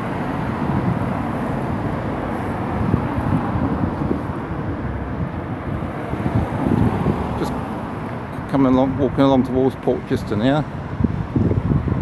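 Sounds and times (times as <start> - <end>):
cars driving past: 0.0 - 12.0.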